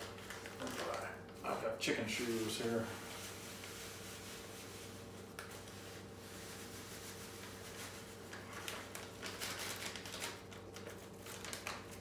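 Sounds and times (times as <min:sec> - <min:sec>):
cheesecloth rustling: 0:00.0 - 0:12.0.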